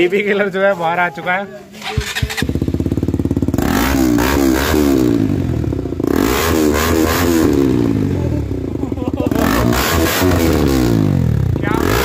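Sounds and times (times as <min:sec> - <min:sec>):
motorcycle engine revving: 0:01.7 - 0:12.0.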